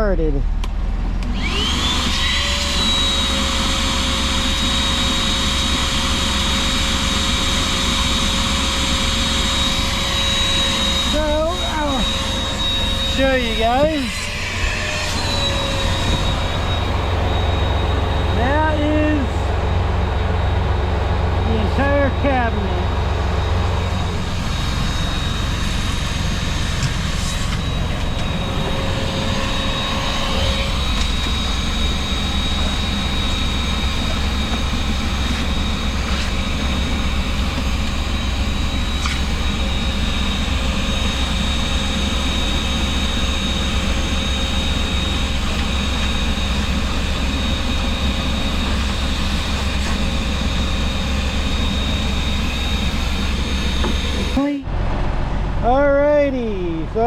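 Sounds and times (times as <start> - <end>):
thin steady whine: 1.4 - 57.0
diesel engine idling: 5.0 - 57.0.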